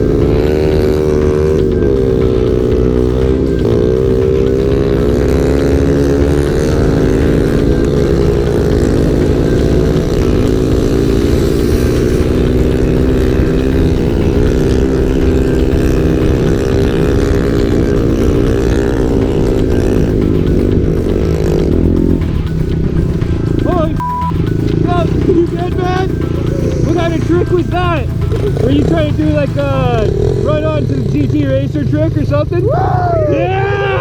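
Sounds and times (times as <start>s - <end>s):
motorcycle engine revving: 0.0s - 34.0s
wind and road noise: 0.0s - 34.0s.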